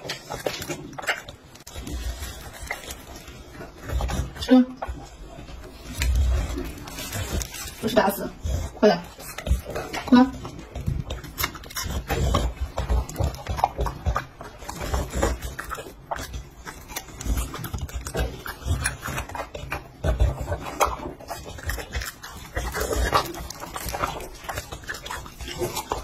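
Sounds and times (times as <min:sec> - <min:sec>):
dog chewing and crunching: 0:00.0 - 0:26.0.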